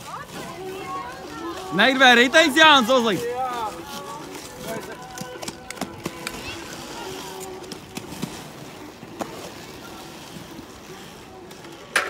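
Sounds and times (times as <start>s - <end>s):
skate clicks: 0.0s - 12.0s
skate wheels rolling on asphalt: 0.0s - 12.0s.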